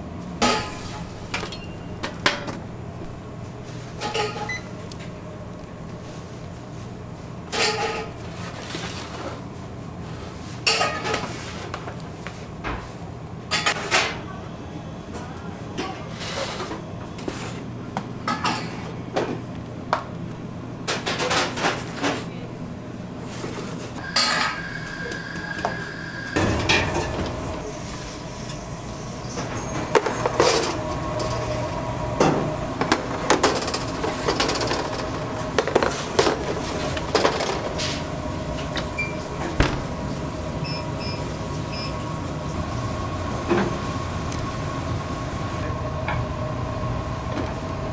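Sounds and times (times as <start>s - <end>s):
kitchen hum: 0.0s - 47.9s.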